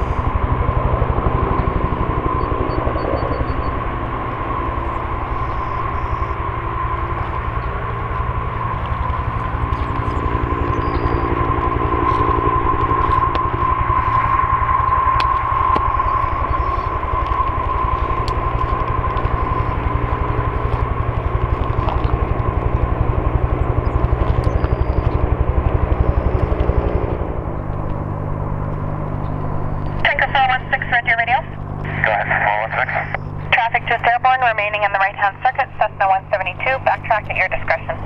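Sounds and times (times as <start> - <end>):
turboprop airliner engines: 0.0 - 38.0.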